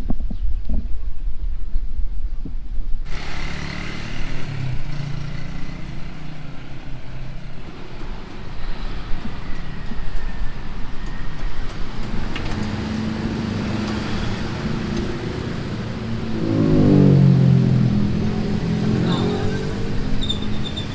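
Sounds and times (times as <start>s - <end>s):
vehicles passing: 3.1s - 20.9s.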